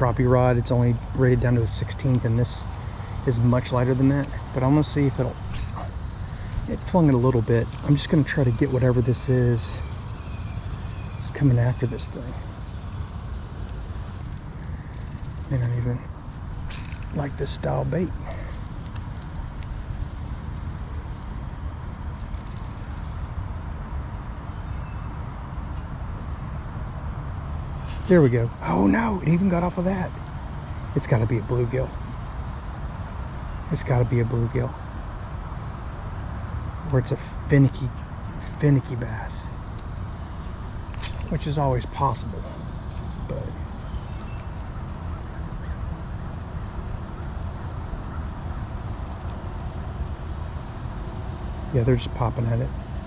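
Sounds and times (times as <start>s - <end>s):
constant low rumble: 0.0s - 53.0s
insects buzzing: 0.0s - 53.0s.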